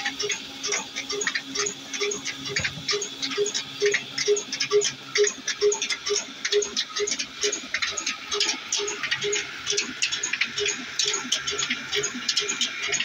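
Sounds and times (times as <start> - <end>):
rapid clatter of ticks: 0.0 - 13.0.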